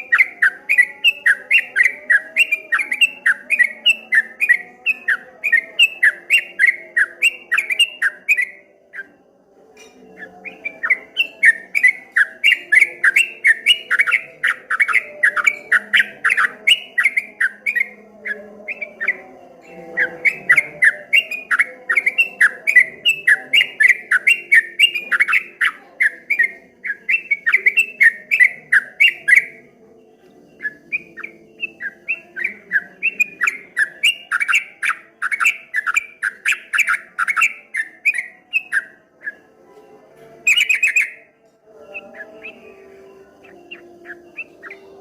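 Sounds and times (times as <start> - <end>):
bulbul whistled song: 0.0 - 9.2, 9.8 - 45.0.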